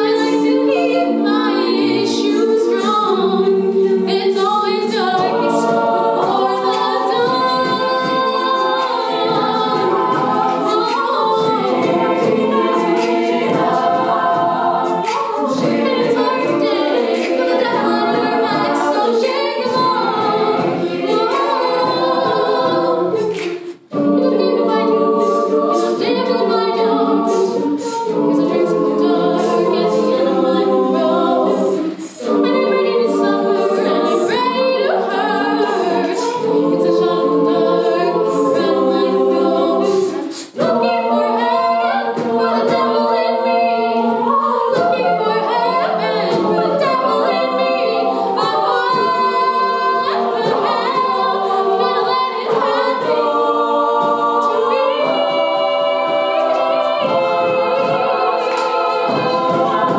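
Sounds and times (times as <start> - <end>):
beatboxed percussion: 0.0 - 59.9
women singing in harmony: 0.0 - 59.9.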